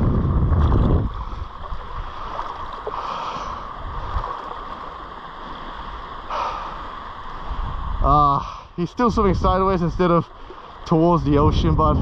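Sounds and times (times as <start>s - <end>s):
shallow surf washing in: 0.0s - 12.0s.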